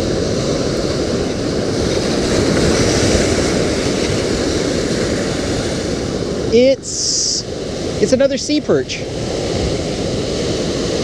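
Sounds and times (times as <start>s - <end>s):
surf washing over rocks: 0.0s - 11.0s.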